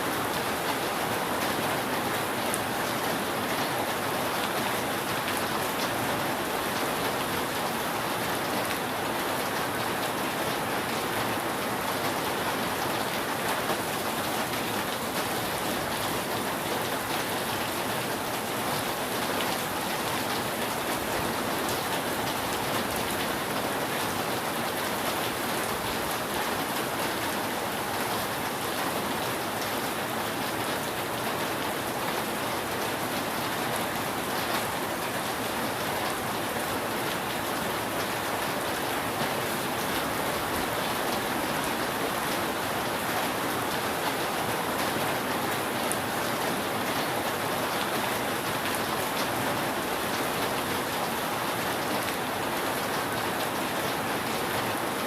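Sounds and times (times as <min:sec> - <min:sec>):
rain falling on a roof: 0:00.0 - 0:55.0.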